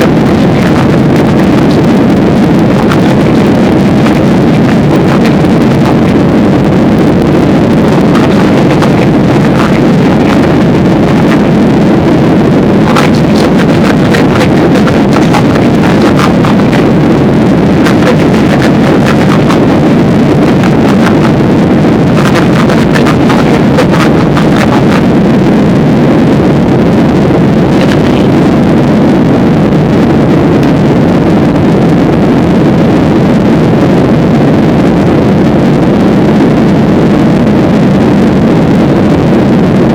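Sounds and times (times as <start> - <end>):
crackle: 0.0 - 39.9.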